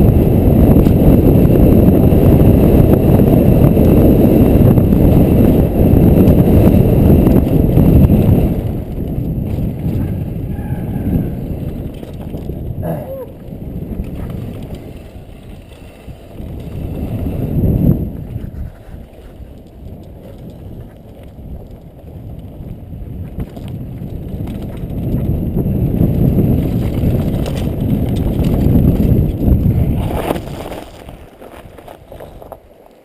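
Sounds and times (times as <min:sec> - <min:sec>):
bike rattling: 0:00.0 - 0:33.0
bike tyre noise on dirt: 0:00.0 - 0:33.0
wind rumbling on microphone: 0:00.0 - 0:33.0.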